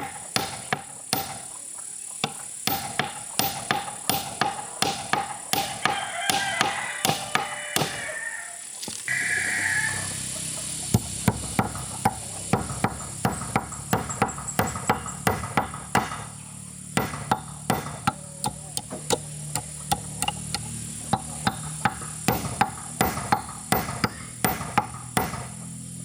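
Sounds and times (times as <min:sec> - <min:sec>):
tool knocking on wood: 0:00.0 - 0:01.4, 0:02.2 - 0:08.0, 0:10.9 - 0:16.4, 0:17.0 - 0:25.6.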